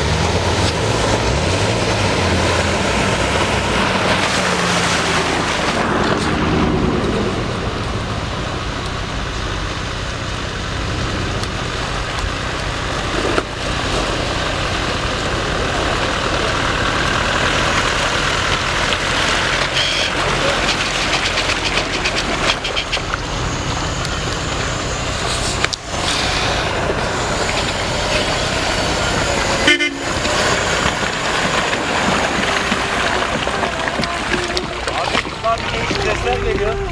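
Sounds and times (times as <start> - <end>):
off-road vehicle engines under load: 0.0 - 36.9
tyres in mud: 0.0 - 36.9.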